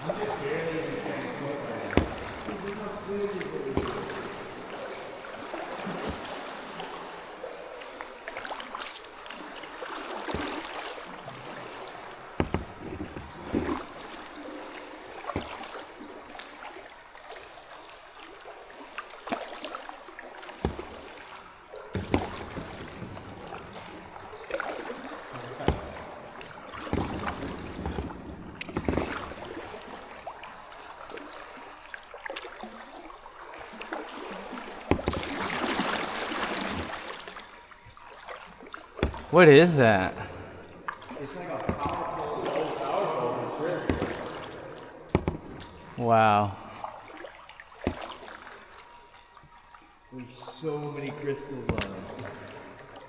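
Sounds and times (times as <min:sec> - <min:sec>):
paddle splashing in water: 0:00.0 - 0:53.0.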